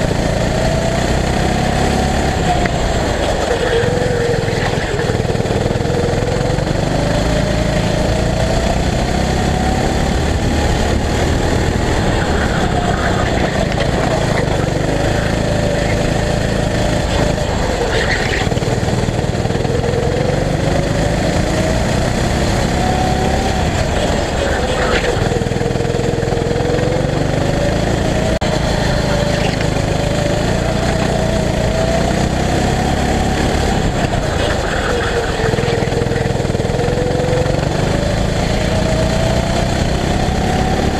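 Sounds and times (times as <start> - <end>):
go-kart engine running: 0.0 - 40.9.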